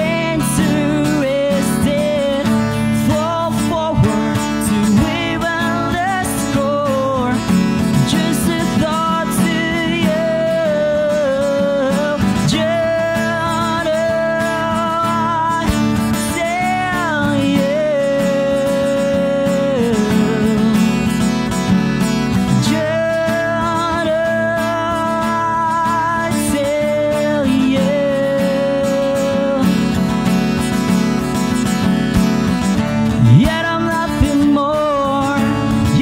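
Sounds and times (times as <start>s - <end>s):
man singing: 0.0s - 36.0s
strummed acoustic guitar: 0.0s - 36.0s.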